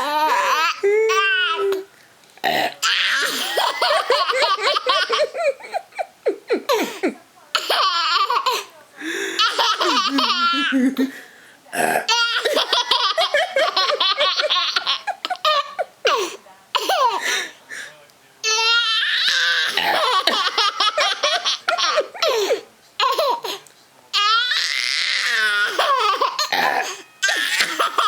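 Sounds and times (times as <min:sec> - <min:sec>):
baby laughing: 0:00.0 - 0:01.9, 0:02.8 - 0:07.0, 0:07.6 - 0:08.7, 0:09.4 - 0:11.1, 0:12.1 - 0:17.2, 0:18.4 - 0:23.6, 0:24.2 - 0:28.0.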